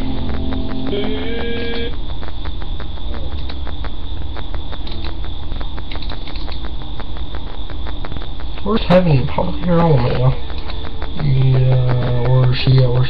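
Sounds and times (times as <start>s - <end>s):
crackling clicks: 0.0s - 13.0s
faint high whine: 0.0s - 13.0s
low hum: 0.0s - 13.0s.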